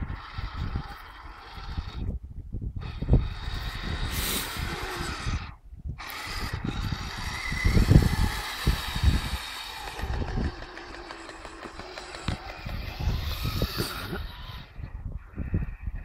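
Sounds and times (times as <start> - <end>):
electric motor whine: 0.0 - 2.2, 2.8 - 14.9.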